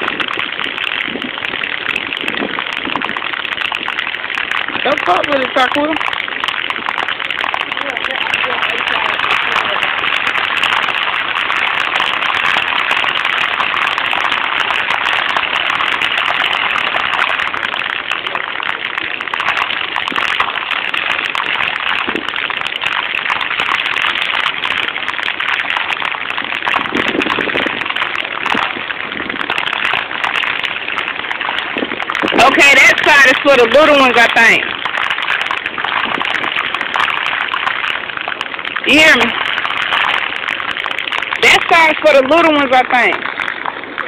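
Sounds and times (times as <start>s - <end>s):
fountain water splashing: 0.0s - 44.0s.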